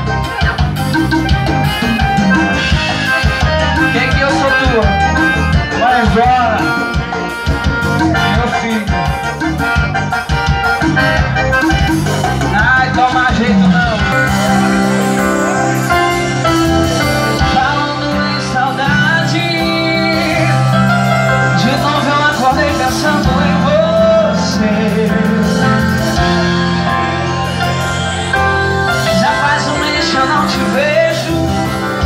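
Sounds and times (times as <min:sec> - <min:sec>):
electronic keyboard music: 0:00.0 - 0:32.0.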